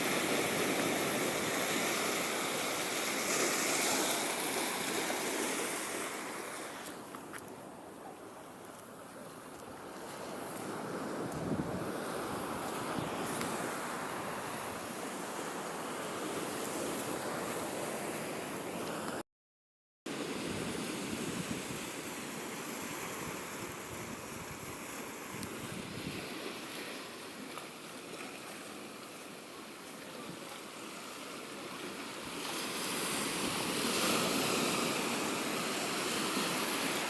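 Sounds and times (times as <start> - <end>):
waves washing onto shore: 0.0 - 19.2, 20.1 - 37.0.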